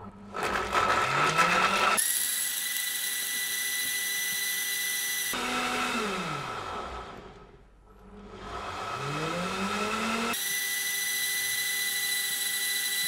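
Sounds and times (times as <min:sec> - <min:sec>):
blender motor whine: 0:00.2 - 0:07.5, 0:08.1 - 0:13.0.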